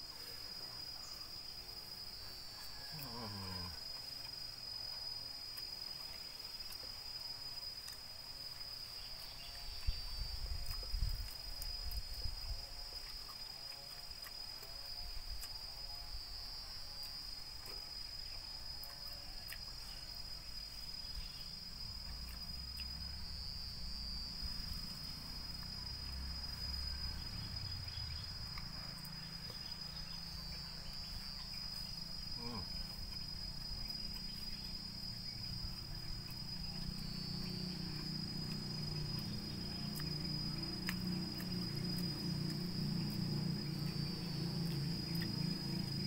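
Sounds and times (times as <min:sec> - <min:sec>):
high-pitched insect drone: 0:00.0 - 0:04.6, 0:08.4 - 0:46.0.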